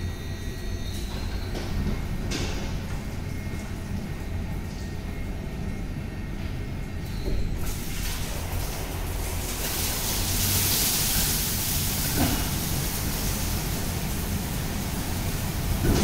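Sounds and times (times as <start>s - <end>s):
car wash motor hum: 0.0s - 16.0s.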